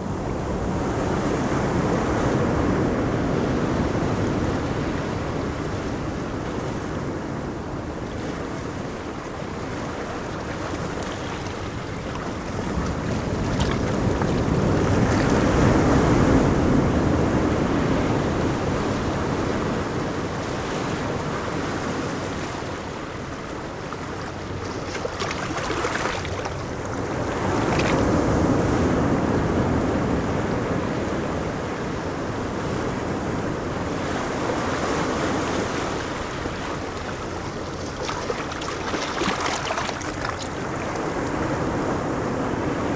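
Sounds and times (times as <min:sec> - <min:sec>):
ocean surf breaking: 0:08.2 - 0:42.9.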